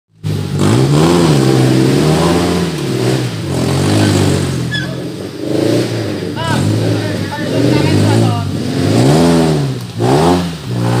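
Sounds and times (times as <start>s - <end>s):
off-road vehicle engine revving: 0.1s - 11.0s.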